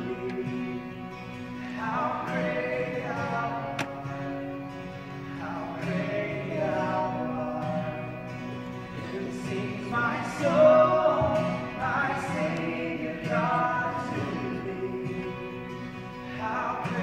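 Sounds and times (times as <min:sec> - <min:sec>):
singing with accompaniment: 0:00.0 - 0:17.0.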